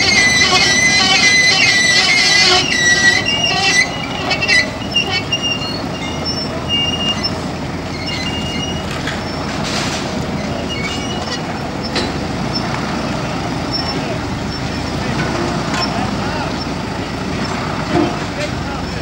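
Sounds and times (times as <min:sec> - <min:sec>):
heavy vehicles rumbling: 0:00.0 - 0:19.0
high-pitched metallic squealing: 0:00.0 - 0:19.0.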